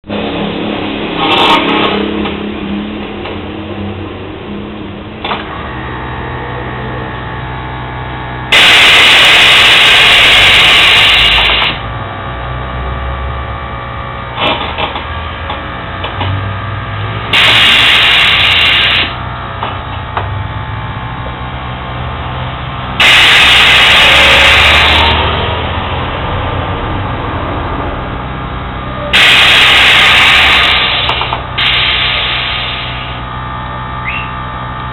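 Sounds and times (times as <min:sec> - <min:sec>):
distorted car stereo blasts: 0:00.0 - 0:34.9
low hum: 0:01.9 - 0:34.9.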